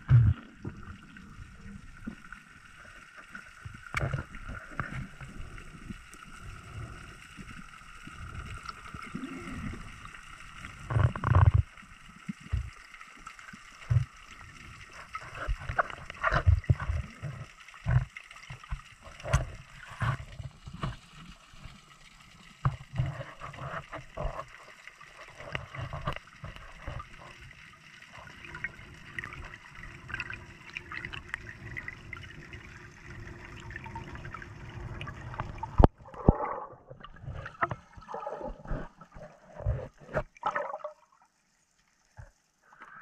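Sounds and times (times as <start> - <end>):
underwater gurgling and bubbling: 0.0 - 41.2
water splashing: 0.0 - 41.3.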